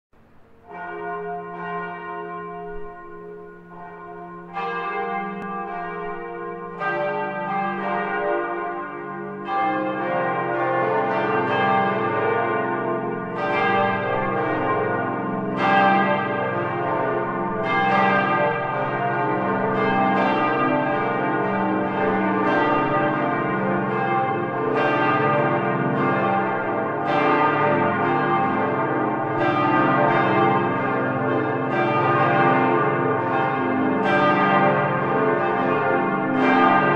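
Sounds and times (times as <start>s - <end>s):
church bells ringing: 0.2s - 36.9s.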